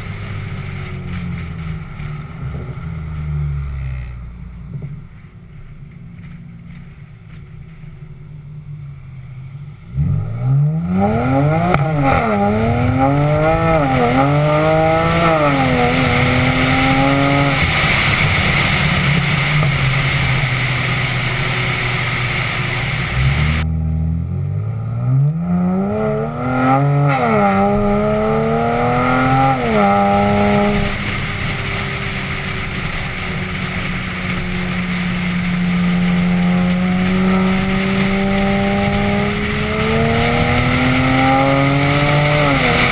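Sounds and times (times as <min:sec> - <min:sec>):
car engine accelerating hard: 0:00.0 - 0:42.9
road and wind noise: 0:00.0 - 0:42.9.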